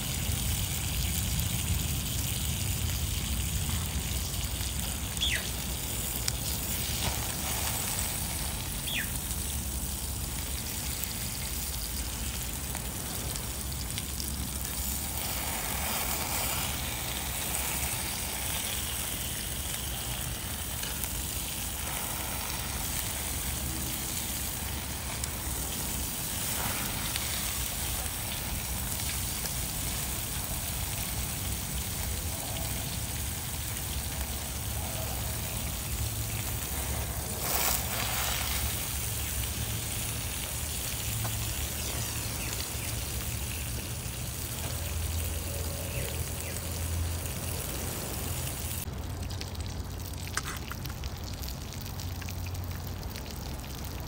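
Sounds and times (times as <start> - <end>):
food sizzling on hot plate: 0.0 - 48.9
wood fire burning: 0.0 - 54.0.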